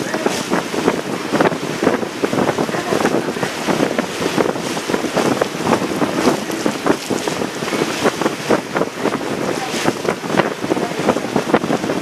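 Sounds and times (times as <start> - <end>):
water splashing along boat hull: 0.0 - 12.0
wind buffeting microphone: 0.0 - 12.0.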